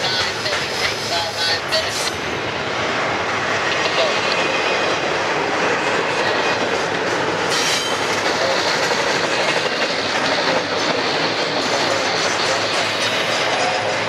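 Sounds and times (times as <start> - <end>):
train wheels running on rails: 0.0 - 14.0.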